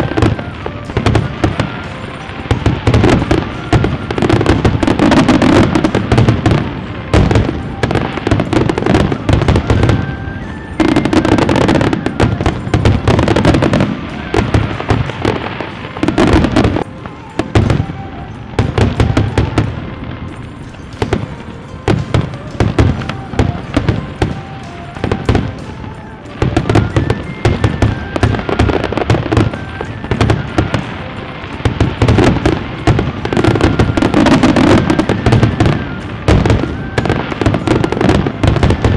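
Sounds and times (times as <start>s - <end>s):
fireworks bangs and crackles: 0.0s - 38.9s
music playing: 0.0s - 38.9s.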